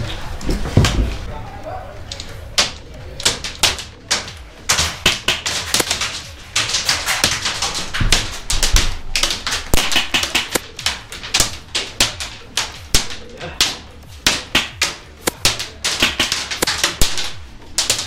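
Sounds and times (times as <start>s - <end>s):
pellets hitting wooden walls: 0.0s - 1.3s, 2.0s - 18.0s
airsoft guns firing: 2.2s - 18.0s.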